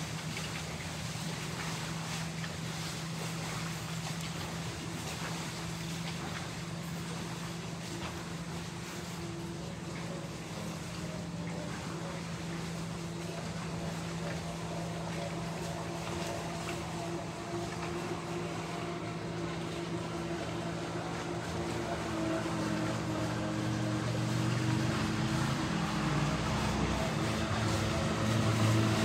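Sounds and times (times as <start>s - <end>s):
motorboat engine humming: 0.0s - 29.0s.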